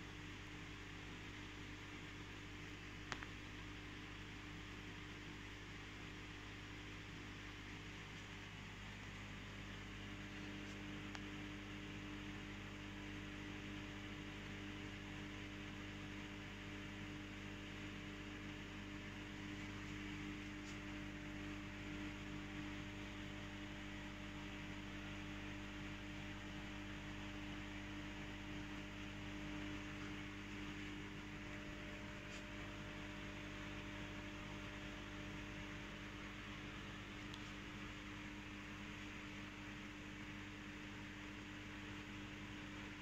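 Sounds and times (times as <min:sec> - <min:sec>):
aquarium equipment humming: 0:00.0 - 0:43.0.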